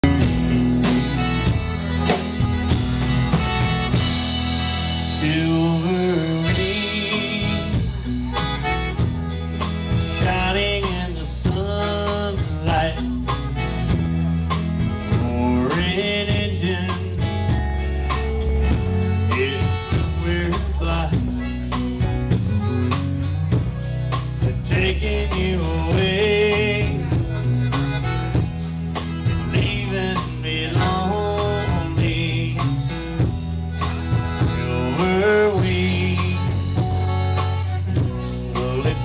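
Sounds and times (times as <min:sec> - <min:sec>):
accordion: 0:00.0 - 0:39.0
live country band playing: 0:00.0 - 0:39.0.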